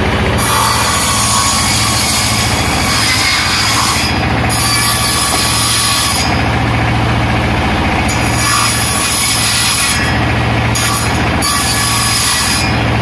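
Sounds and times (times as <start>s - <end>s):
circular saw motor hum: 0.0s - 13.0s.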